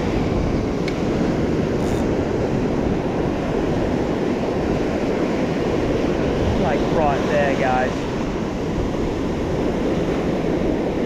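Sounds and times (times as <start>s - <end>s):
ocean surf washing onto beach: 0.0s - 11.0s
wind on microphone: 0.0s - 11.0s.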